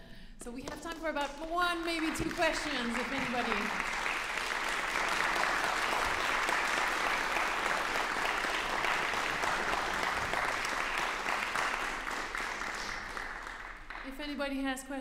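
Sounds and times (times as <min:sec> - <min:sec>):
audience applauding: 0:01.8 - 0:14.2.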